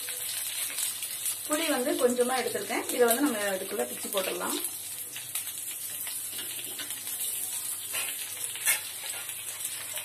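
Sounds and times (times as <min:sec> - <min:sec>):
oil sizzling in a pan: 0:00.0 - 0:10.0
sharp popping of frying food: 0:00.0 - 0:10.0.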